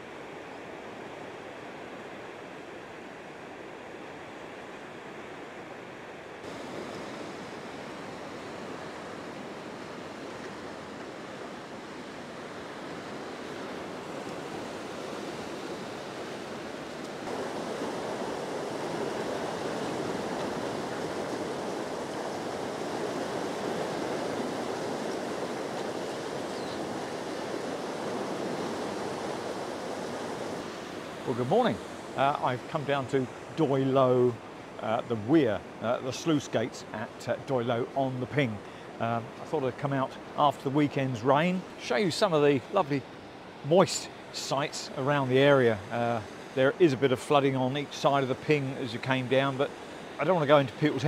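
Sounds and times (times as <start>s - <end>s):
floodwater rushing at weir: 0.0s - 51.0s.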